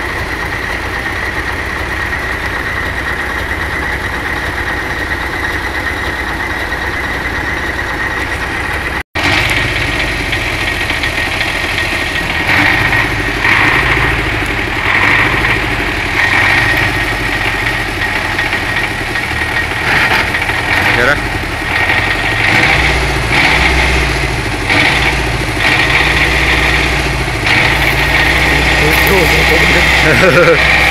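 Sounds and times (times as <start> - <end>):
engine idling: 0.0 - 30.9.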